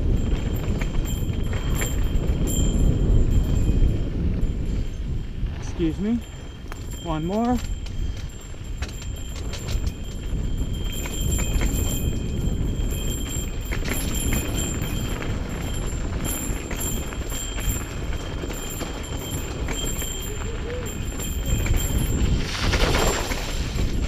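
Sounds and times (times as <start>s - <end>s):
bike rattling over bumps: 0.0s - 24.0s
wind rumble on microphone: 0.0s - 24.0s.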